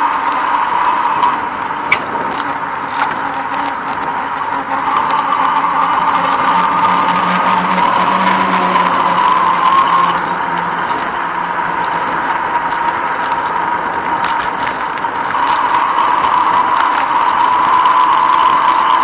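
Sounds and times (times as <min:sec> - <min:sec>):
bicycle mechanical whine: 0:00.0 - 0:19.0.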